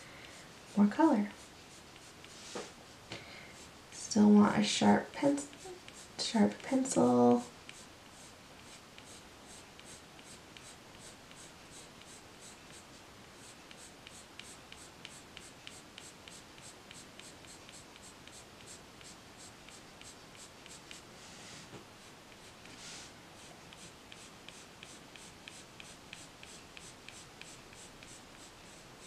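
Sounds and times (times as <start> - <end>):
coloured pencil scratching on paper: 0.2 - 21.1, 22.0 - 29.0.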